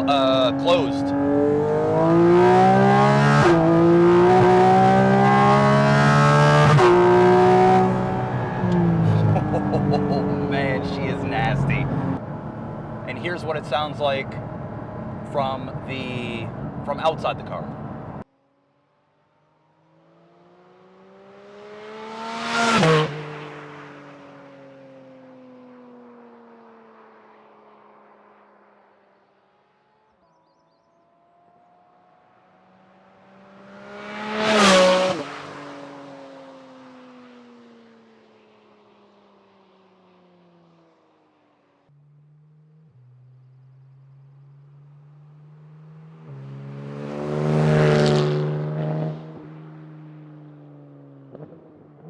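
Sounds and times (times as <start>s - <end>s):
car engine accelerating hard: 0.0s - 18.2s, 19.8s - 29.0s, 32.2s - 38.7s, 42.0s - 52.0s.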